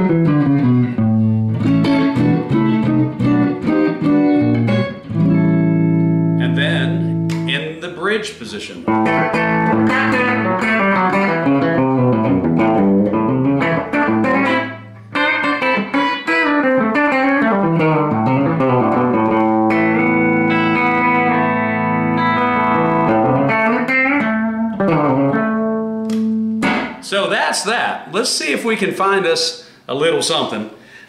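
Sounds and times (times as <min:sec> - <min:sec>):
electric guitar playing: 0:00.0 - 0:08.1, 0:08.8 - 0:27.1.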